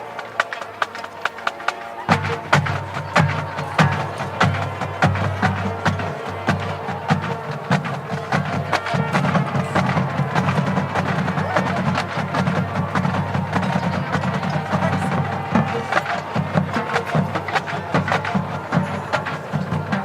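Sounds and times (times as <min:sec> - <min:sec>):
marching snare drums: 0:00.0 - 0:20.0.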